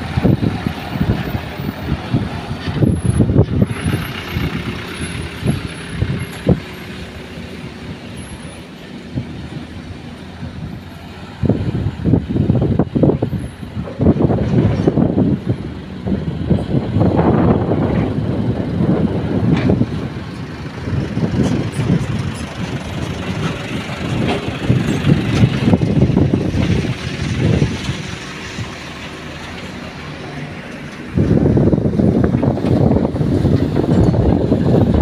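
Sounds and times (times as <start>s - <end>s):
dump truck diesel engines: 0.0s - 35.0s.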